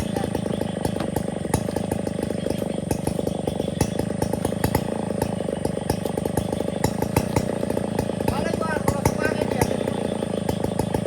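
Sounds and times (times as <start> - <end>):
chainsaw engine running: 0.0 - 11.0.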